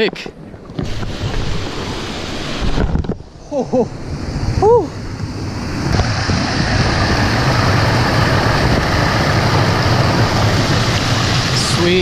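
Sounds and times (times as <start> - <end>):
waterfall rushing: 0.8 - 12.0.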